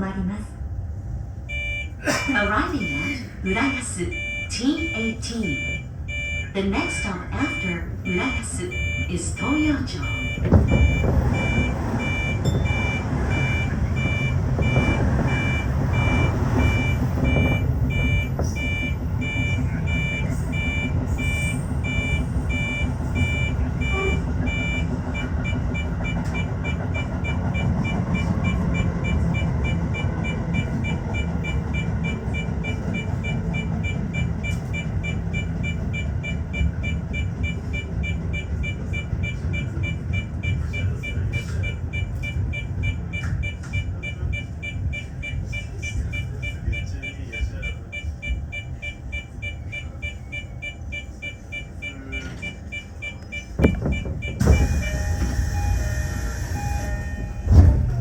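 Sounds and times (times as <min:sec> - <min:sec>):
train rumbling to a stop: 0:00.0 - 0:58.0
high electronic beeps: 0:01.5 - 0:57.1.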